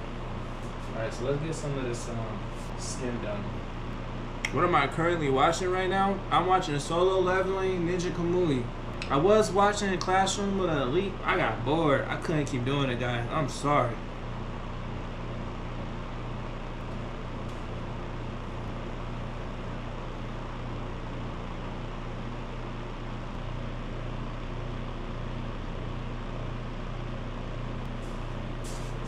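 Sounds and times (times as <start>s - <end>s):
motor-driven fan running: 0.0s - 29.0s.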